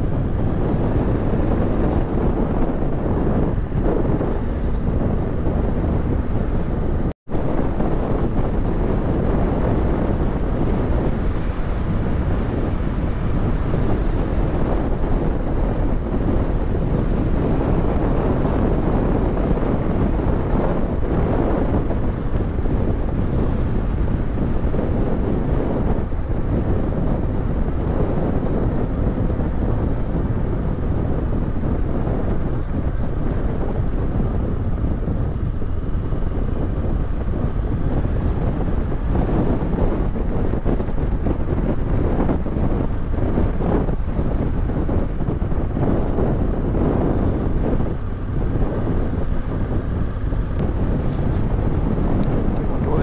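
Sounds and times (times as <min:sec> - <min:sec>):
motorcycle engine running: 0:00.0 - 0:52.9
wind buffeting microphone: 0:00.0 - 0:53.0.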